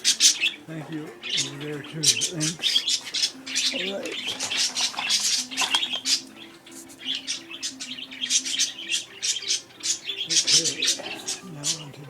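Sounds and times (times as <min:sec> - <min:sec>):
budgerigars chirping and warbling: 0:00.0 - 0:12.0.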